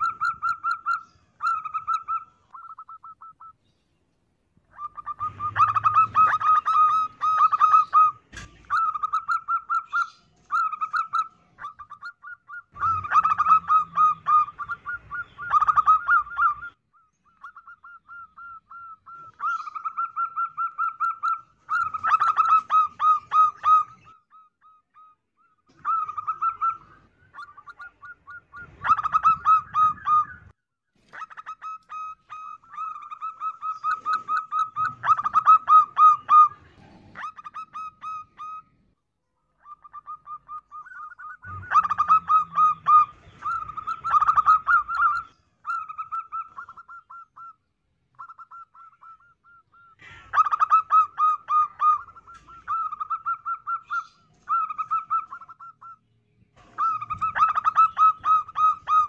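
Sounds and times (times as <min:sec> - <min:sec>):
dove cooing: 0:00.0 - 0:03.5, 0:04.6 - 0:30.5, 0:31.1 - 0:38.8, 0:39.6 - 0:47.6, 0:48.2 - 0:56.0, 0:56.6 - 0:59.0.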